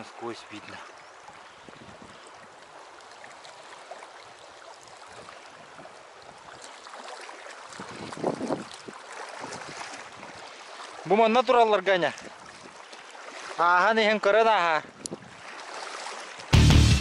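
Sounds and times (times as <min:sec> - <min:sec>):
shallow river water flowing: 0:00.0 - 0:16.6
small water splashes: 0:00.0 - 0:16.6.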